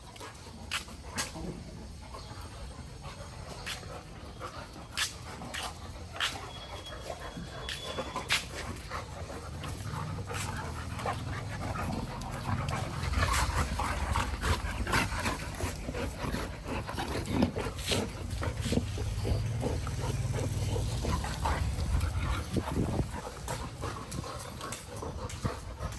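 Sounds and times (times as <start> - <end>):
dog panting: 0.0 - 25.9.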